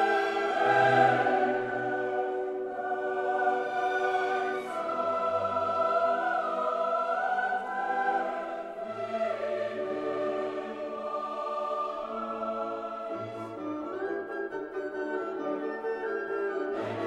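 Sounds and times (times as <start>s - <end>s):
choral music: 0.0s - 17.0s.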